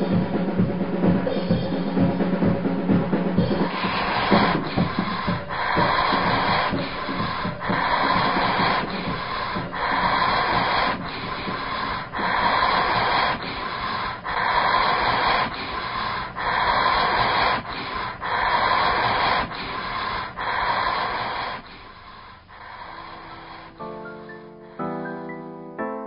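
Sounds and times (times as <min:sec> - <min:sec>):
heavy rhythmic breathing: 0:00.0 - 0:25.7.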